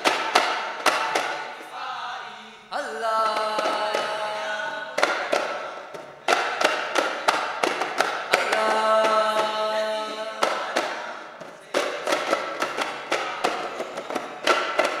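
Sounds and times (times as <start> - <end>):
frame drums beaten: 0.0 - 1.8, 2.7 - 15.0
group of voices singing: 0.8 - 15.0.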